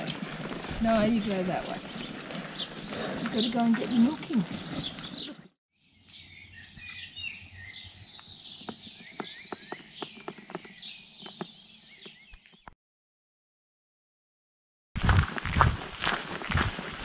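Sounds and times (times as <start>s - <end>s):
small birds chirping: 0.0s - 12.8s, 15.4s - 16.8s.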